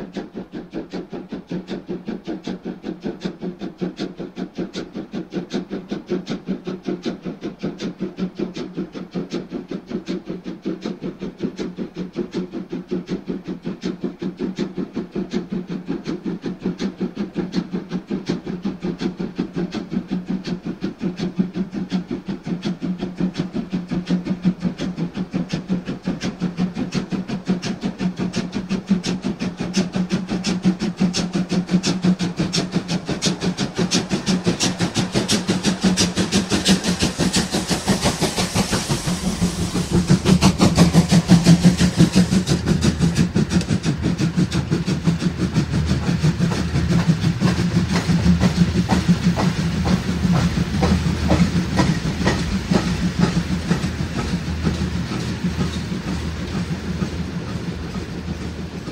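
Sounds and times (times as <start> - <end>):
steam hissing: 0.0 - 58.9
steam locomotive exhaust beating: 0.0 - 58.9.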